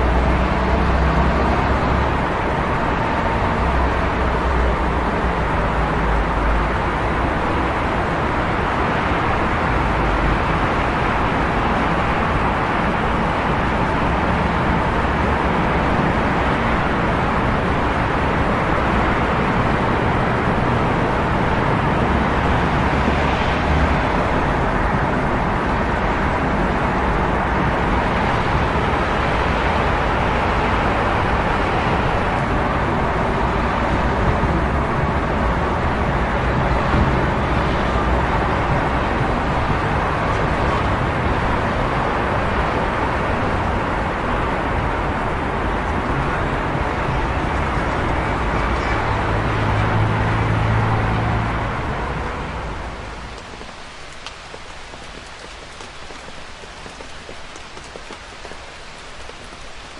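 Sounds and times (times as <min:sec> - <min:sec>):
city road traffic: 0:00.0 - 0:59.9.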